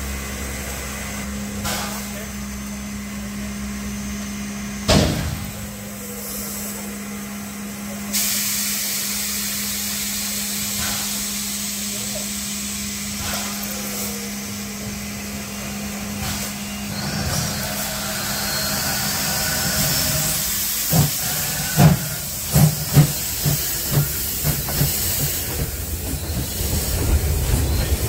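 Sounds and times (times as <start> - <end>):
locomotive humming: 0.0 - 28.0
steam hissing: 5.3 - 28.0.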